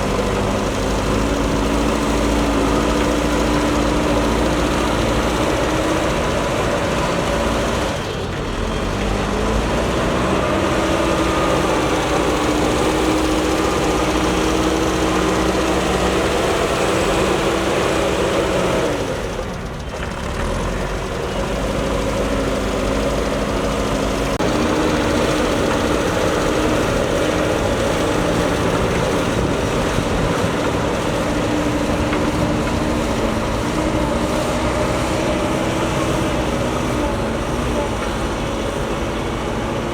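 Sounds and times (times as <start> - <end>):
diesel engine working: 0.0 - 39.9.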